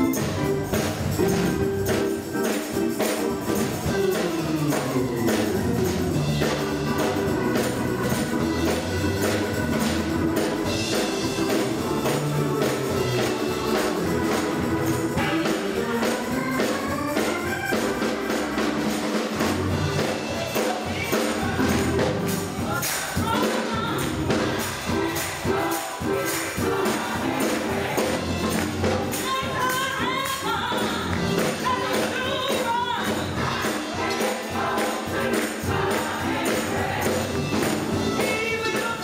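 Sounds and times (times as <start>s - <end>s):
band accompaniment: 0.0s - 39.0s
choir singing gospel: 0.0s - 39.0s
tambourine shaking: 0.0s - 39.0s.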